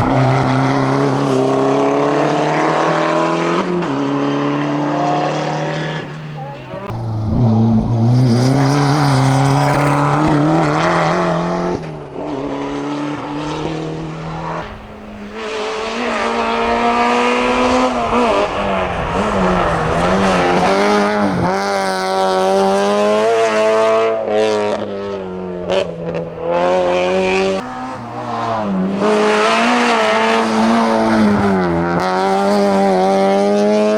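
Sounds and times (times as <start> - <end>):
racing car engine at full throttle: 0.0 - 33.9.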